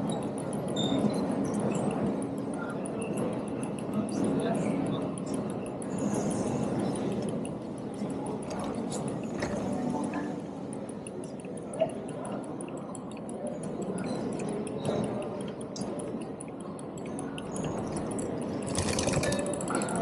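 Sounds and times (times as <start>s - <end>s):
train station murmur: 0.0s - 20.0s.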